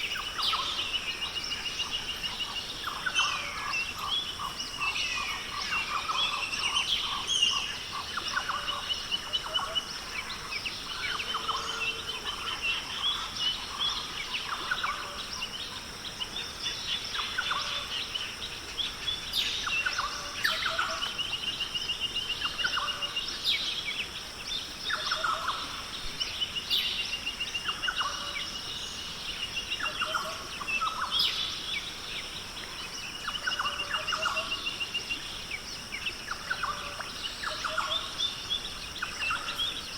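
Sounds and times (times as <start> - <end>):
birds calling: 0.0 - 39.9.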